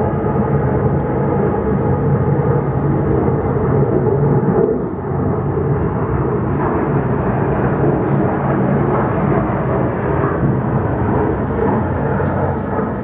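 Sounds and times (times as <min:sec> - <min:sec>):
heavy engines droning: 0:00.0 - 0:13.0.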